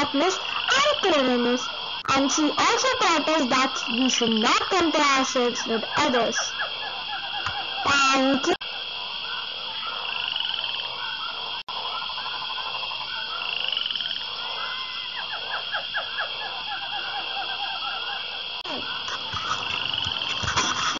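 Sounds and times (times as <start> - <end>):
frogs croaking and trilling: 0.0 - 20.9.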